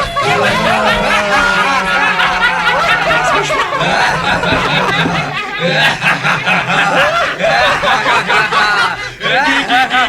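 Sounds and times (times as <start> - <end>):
wordless snickering and chuckling: 0.0 - 10.0.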